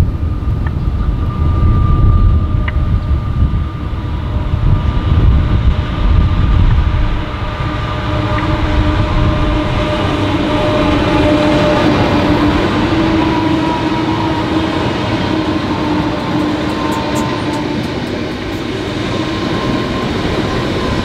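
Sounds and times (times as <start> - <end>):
diesel locomotive engine rumble: 0.0 - 21.0
steady whine: 0.0 - 21.0.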